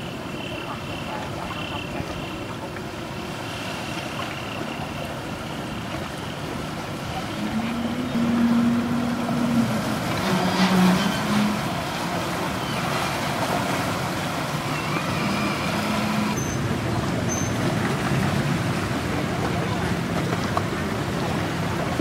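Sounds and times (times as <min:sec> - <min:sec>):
boat engine running: 0:00.0 - 0:22.0
water churning at hull: 0:00.0 - 0:22.0.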